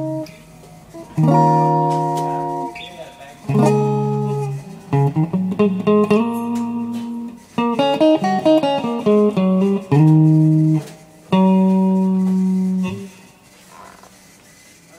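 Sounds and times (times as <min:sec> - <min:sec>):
electric guitar playing: 0:00.0 - 0:13.4.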